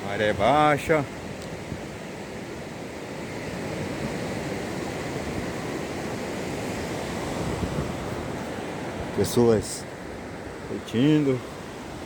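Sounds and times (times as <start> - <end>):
ocean surf washing onto beach: 0.0 - 12.0
wind buffeting microphone: 0.0 - 12.0.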